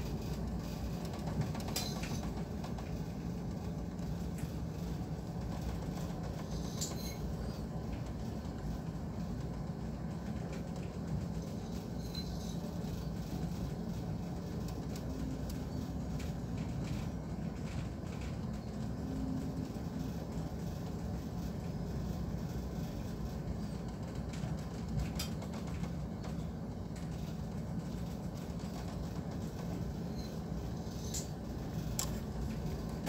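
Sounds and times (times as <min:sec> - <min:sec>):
ship engine rumble and hum: 0:00.0 - 0:33.0
wind: 0:00.0 - 0:33.0.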